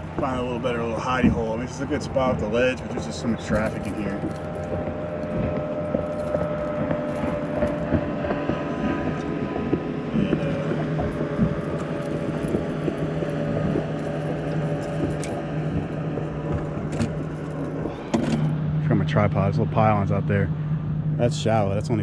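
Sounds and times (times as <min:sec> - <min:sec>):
boat motor running: 0:00.0 - 0:22.0.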